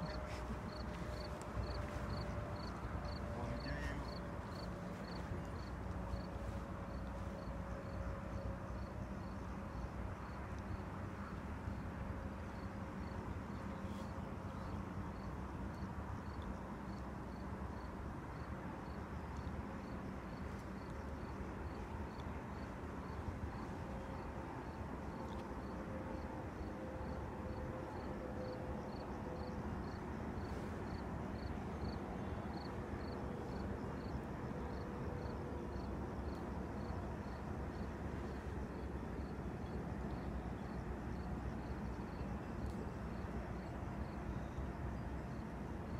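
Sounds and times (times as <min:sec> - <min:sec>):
insect chirping: 0:00.0 - 0:10.8, 0:12.5 - 0:44.6
faint hum: 0:00.0 - 0:45.9.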